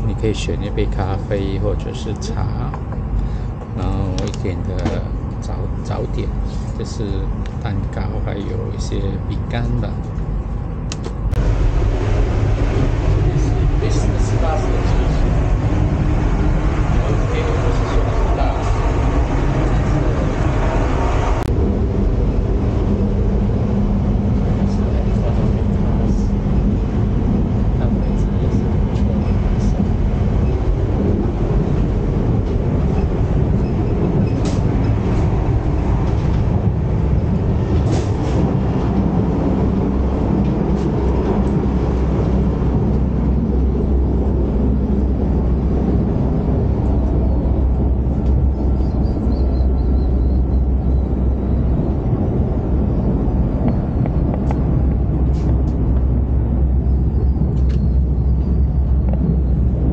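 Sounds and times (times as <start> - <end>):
electric train rumbling: 0.0 - 59.9.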